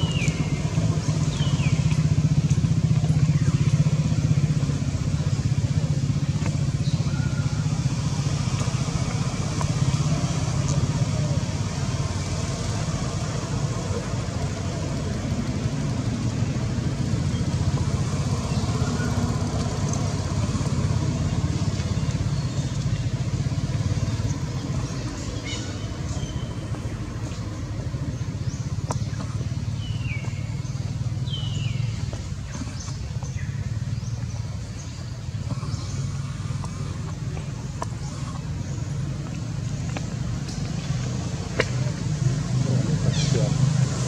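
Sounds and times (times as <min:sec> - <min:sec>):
vehicle engine rumbling: 0:00.0 - 0:44.0.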